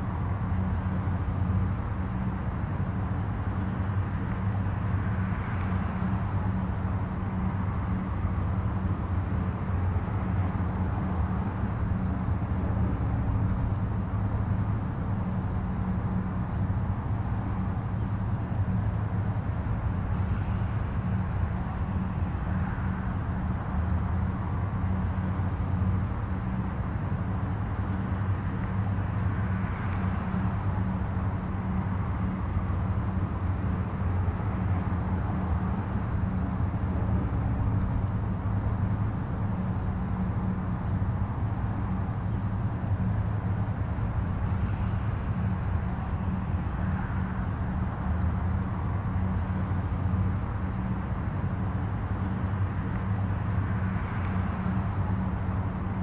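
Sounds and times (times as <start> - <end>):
distant highway traffic hum: 0.0 - 56.0.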